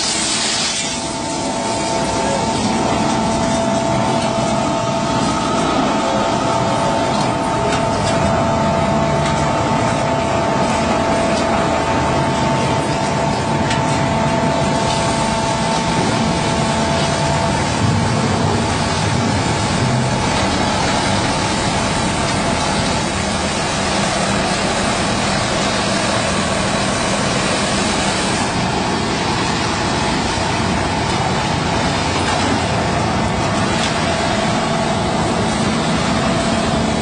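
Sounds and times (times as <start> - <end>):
concrete pump machine running: 0.0 - 37.0.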